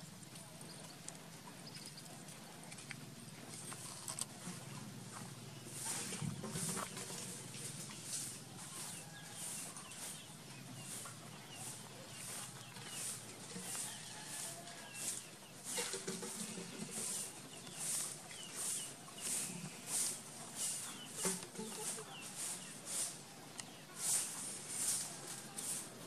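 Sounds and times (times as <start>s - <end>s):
small birds chirping: 0.0s - 26.0s
chickens clucking: 0.3s - 26.0s.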